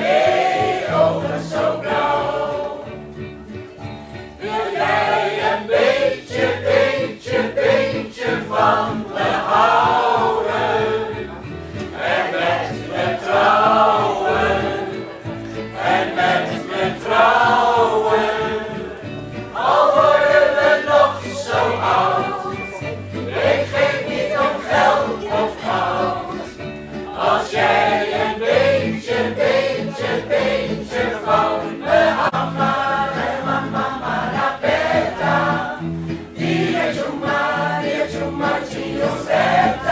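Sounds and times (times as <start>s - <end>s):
mixed choir singing: 0.0s - 3.2s, 4.4s - 39.9s
small band with ukulele: 0.0s - 39.9s.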